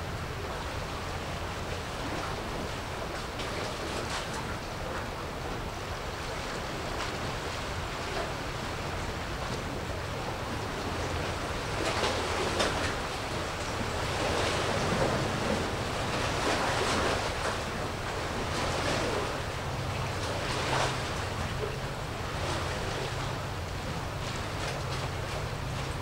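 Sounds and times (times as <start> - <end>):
sea waves washing in: 0.0 - 26.0
steady low rumble: 3.9 - 26.0.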